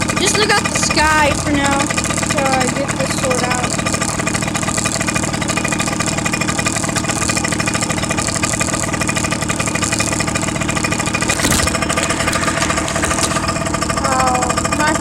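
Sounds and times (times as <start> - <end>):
small motorcycle engine idling: 0.0 - 15.0.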